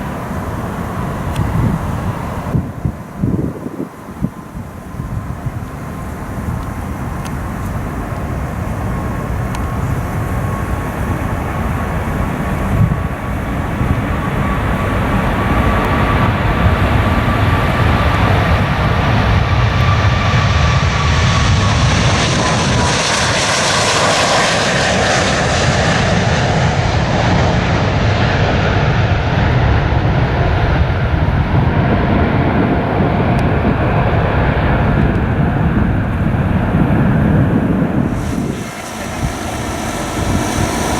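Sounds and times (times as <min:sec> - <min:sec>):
jet airliner taking off: 0:00.0 - 0:40.9.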